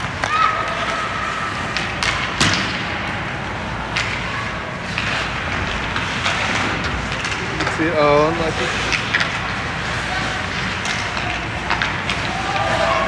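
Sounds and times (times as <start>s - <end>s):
hockey sticks and puck knocking: 0.0s - 13.0s.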